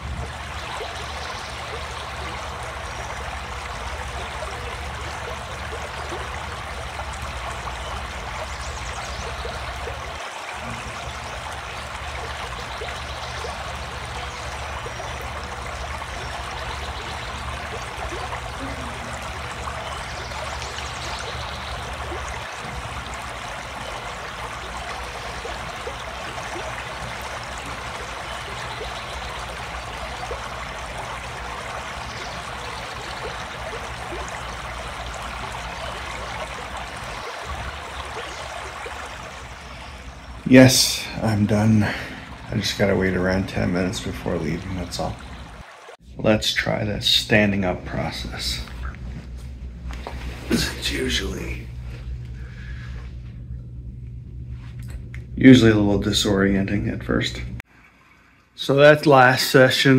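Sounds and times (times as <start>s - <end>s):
low hum: 0.0s - 58.8s.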